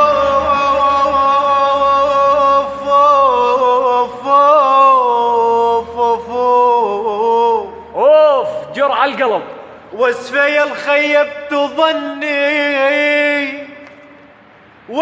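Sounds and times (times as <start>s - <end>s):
man singing with melismatic ornaments: 0.0s - 14.3s.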